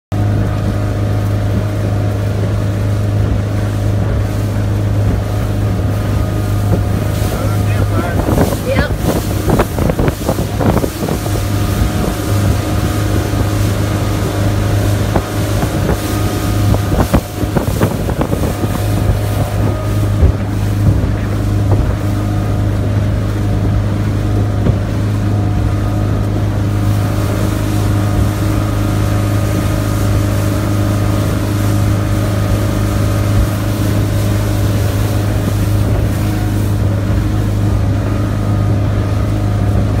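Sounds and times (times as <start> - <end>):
motorboat engine humming: 0.1 - 40.0
wind buffeting microphone: 0.2 - 40.0.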